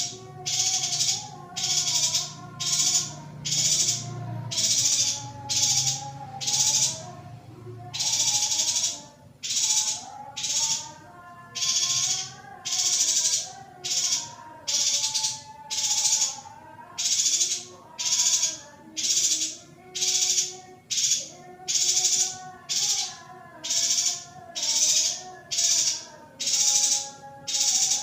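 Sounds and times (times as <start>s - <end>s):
high buzzy bird calls: 0.0s - 28.0s.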